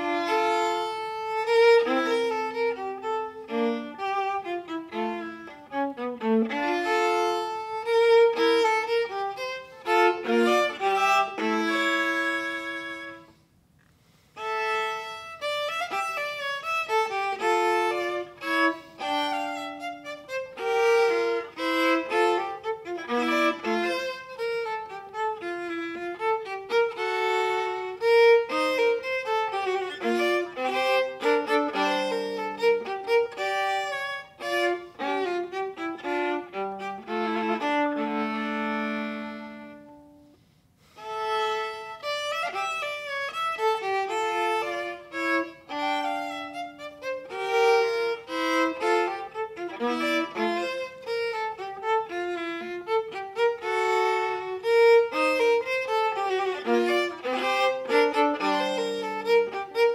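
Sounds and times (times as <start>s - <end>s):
viola playing classical piece: 0.0s - 59.9s.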